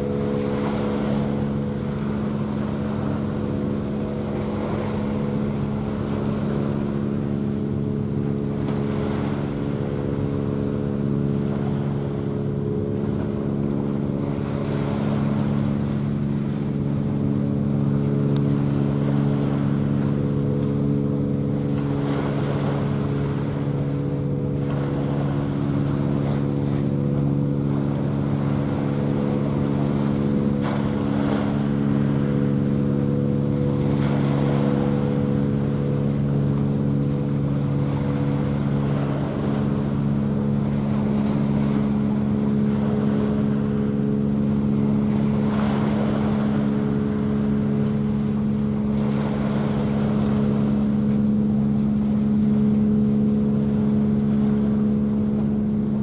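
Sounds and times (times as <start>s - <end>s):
boat engine droning: 0.0s - 56.0s
water noise: 0.0s - 56.0s
wind on microphone: 0.0s - 56.0s.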